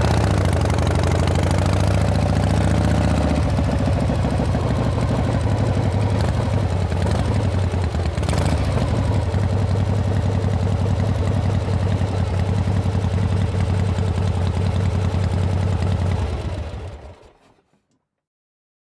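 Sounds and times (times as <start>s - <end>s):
motorcycle exhaust beat: 0.0s - 16.2s.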